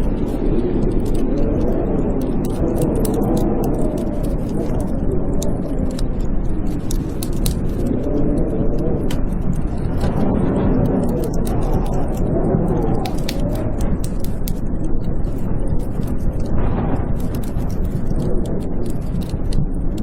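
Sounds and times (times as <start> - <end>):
blizzard wind howling: 0.0 - 20.0
wood fire crackling: 0.0 - 20.0.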